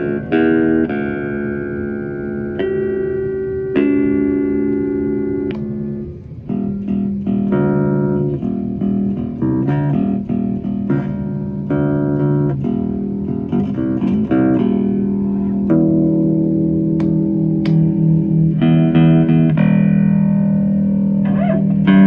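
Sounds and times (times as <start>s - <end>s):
electric bass guitar plucked: 0.0s - 22.0s.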